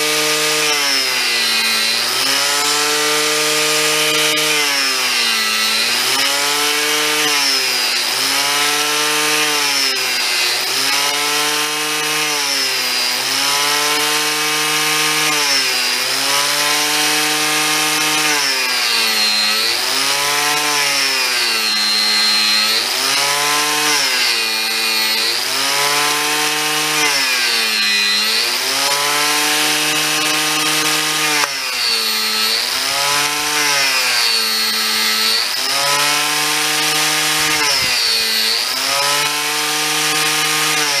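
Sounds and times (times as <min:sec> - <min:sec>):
angle grinder motor: 0:00.0 - 0:41.0
grinder rasping into wood: 0:00.0 - 0:41.0.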